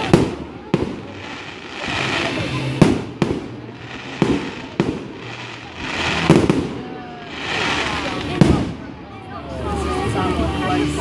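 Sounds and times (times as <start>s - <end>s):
fireworks bangs: 0.0s - 9.0s
fireworks hissing rush: 0.0s - 11.0s.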